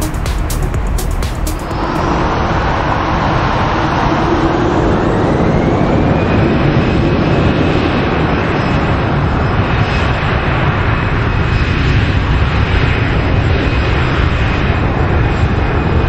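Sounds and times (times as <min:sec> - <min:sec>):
jet engines spooling up: 0:00.0 - 0:16.0
rising engine whine: 0:00.0 - 0:16.0.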